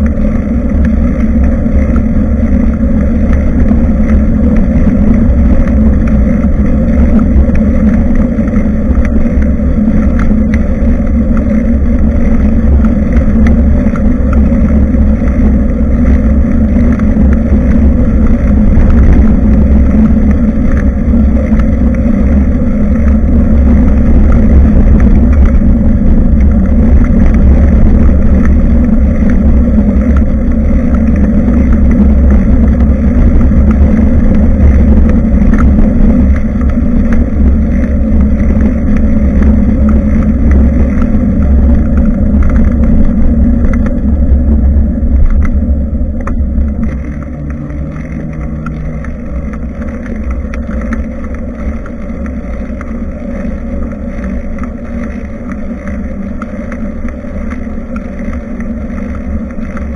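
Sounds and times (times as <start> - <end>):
bicycle tyre and road noise: 0.0 - 59.9
low hum: 0.0 - 59.9
wind rumbling on microphone: 0.0 - 59.9.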